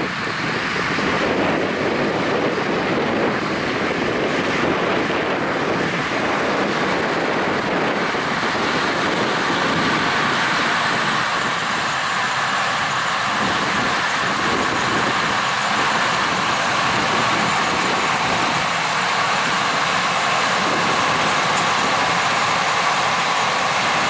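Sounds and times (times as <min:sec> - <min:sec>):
wind on microphone: 0:00.0 - 0:12.1, 0:12.9 - 0:24.0
harvest machinery running: 0:00.0 - 0:24.0.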